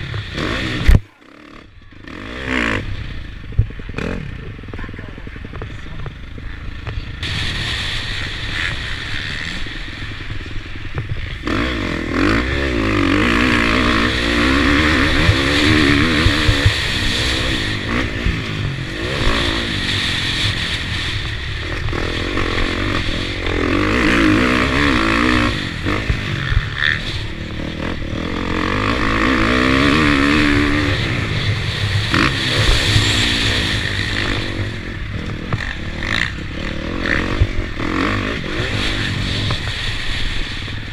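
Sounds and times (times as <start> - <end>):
motocross bike engine surging: 0.0 - 40.9.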